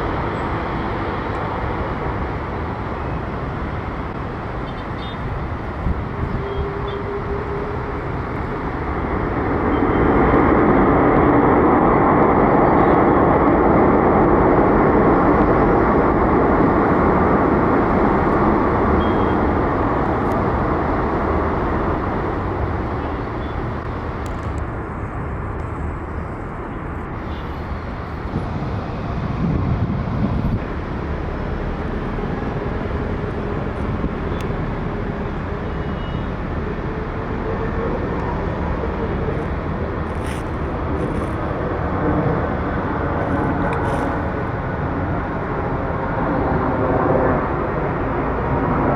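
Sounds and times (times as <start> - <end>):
jet airliner engines rumbling: 0.0 - 48.9.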